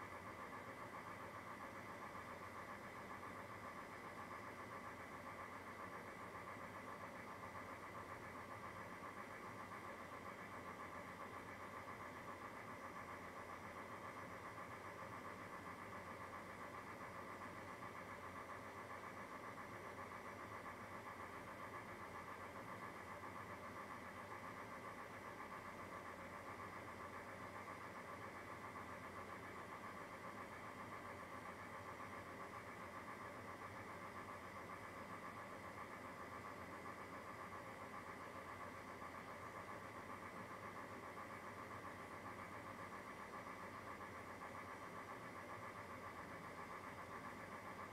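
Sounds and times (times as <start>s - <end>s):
faint mechanical hum: 0.0s - 47.9s.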